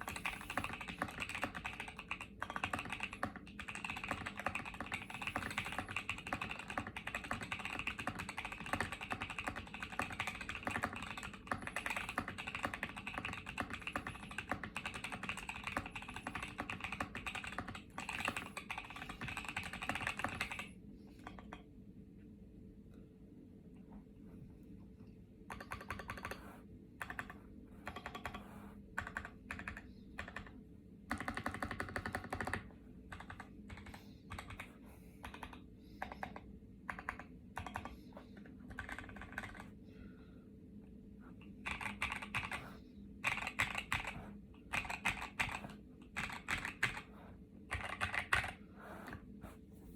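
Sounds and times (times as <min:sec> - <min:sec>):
typing on mechanical keyboard: 0:00.0 - 0:21.6, 0:25.5 - 0:39.8, 0:41.5 - 0:47.1, 0:47.7 - 0:49.2.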